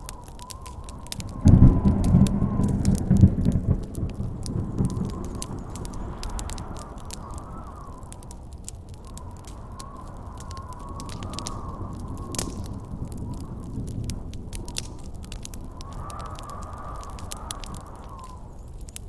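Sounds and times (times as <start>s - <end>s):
thunderclap rumbling: 0.0s - 18.4s
campfire crackling and popping: 0.0s - 19.0s
howling wind: 0.0s - 19.0s.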